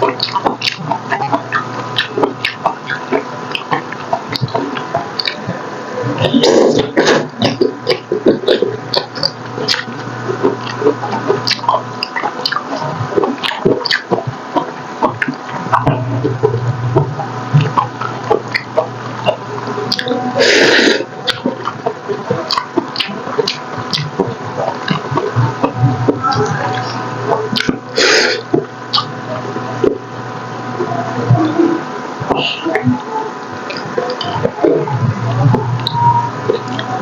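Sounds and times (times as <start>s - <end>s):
wet chewing and smacking: 0.0s - 30.8s, 32.2s - 37.0s.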